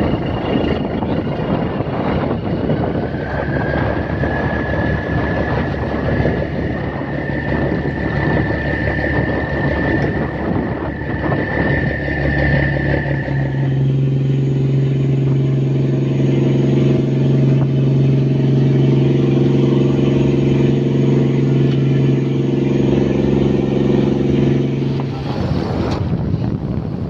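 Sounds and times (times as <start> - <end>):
boat engine drone: 0.0 - 27.0
high steady whine: 0.0 - 27.0.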